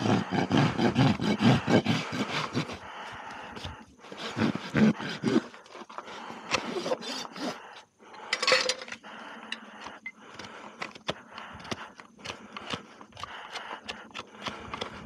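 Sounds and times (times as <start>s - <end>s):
rasp scraping hoof: 0.0s - 7.8s, 9.8s - 15.0s.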